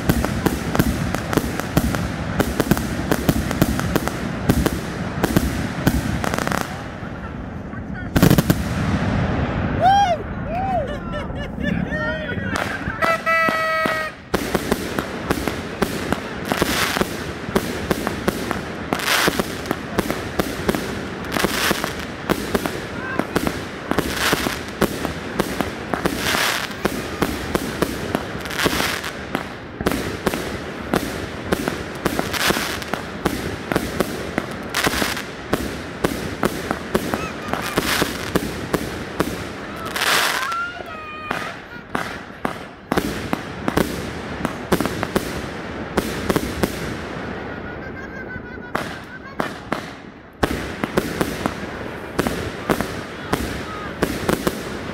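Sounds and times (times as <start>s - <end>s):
firework booms: 0.0s - 7.4s, 8.1s - 10.4s, 12.5s - 47.8s, 48.6s - 54.9s.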